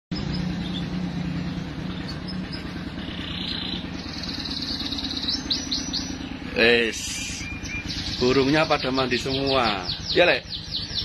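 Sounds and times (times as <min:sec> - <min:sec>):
canaries chirping and trilling: 0:00.1 - 0:11.0
steady low hum: 0:00.1 - 0:11.0.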